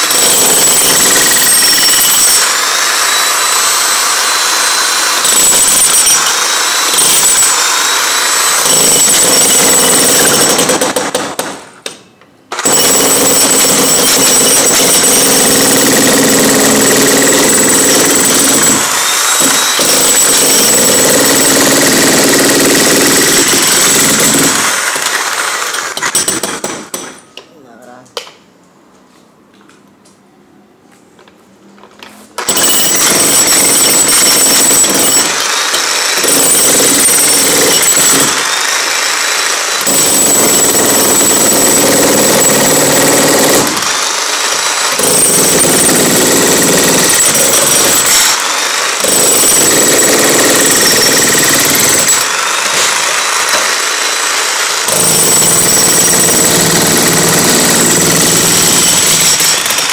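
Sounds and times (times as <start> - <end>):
demolition hammer breaking concrete: 0.0 - 11.8, 12.5 - 27.3, 32.4 - 59.9.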